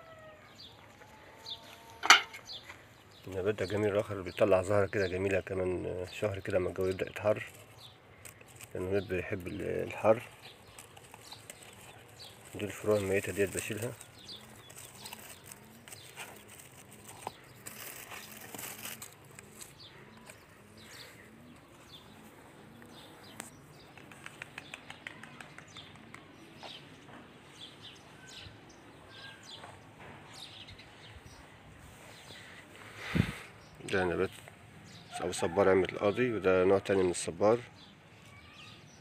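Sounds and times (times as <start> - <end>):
small birds chirping: 0.0 - 36.2, 36.8 - 39.0.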